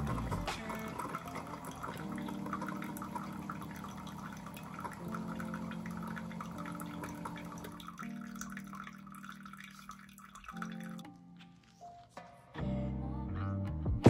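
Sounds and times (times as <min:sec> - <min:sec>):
coffee trickling into mug: 0:00.0 - 0:11.9
soft background music: 0:00.0 - 0:14.0.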